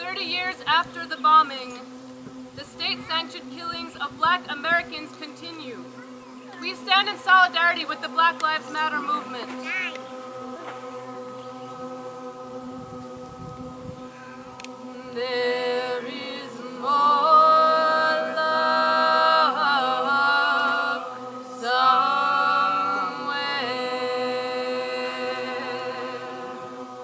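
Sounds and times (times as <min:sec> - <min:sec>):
chorus singing held notes: 0:00.0 - 0:27.0
low steady drone: 0:00.0 - 0:27.0.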